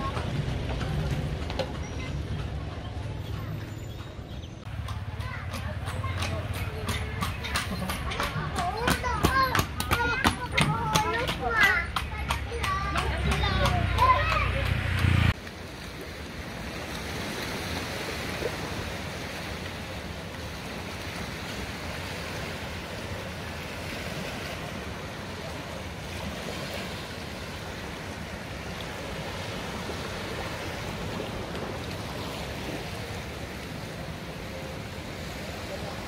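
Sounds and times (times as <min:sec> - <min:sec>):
sea surf washing onto beach: 0:04.7 - 0:36.0.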